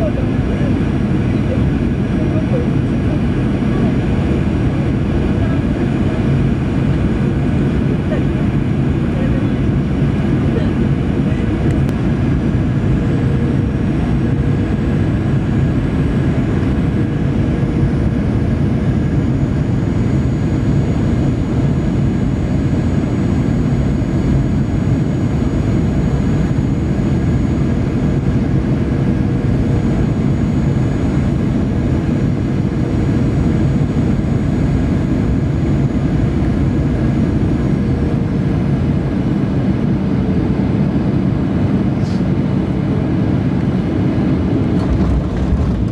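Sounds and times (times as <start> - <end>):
engine and air rumble in cabin: 0.0 - 45.9.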